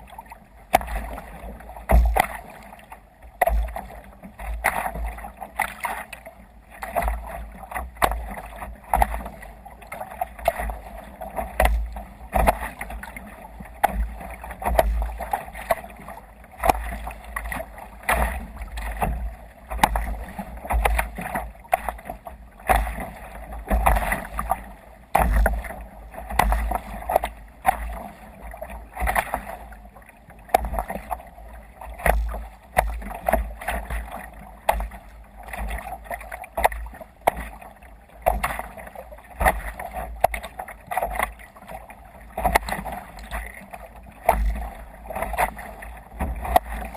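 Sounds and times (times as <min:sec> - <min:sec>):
water slapping against kayak hull: 0:00.0 - 0:46.9.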